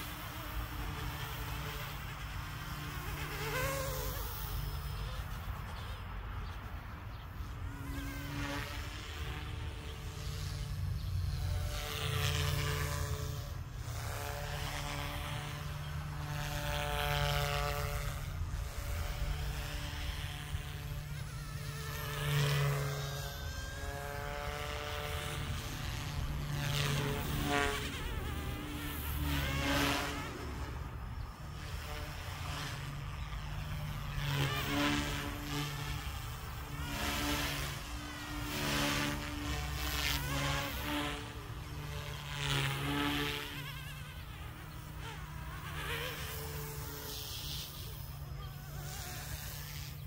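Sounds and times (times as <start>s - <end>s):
rc helicopter rotor whine: 0.0s - 50.0s.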